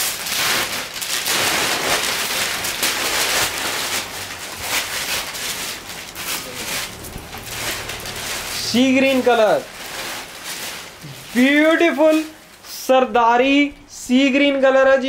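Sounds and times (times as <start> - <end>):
plastic wrapping crinkling: 0.0 - 14.7.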